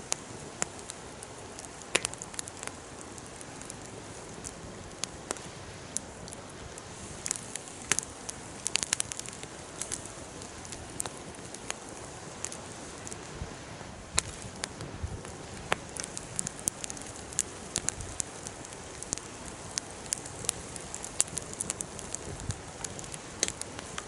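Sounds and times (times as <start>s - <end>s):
campfire crackling: 0.0s - 24.0s
low hiss of burning: 0.0s - 24.0s.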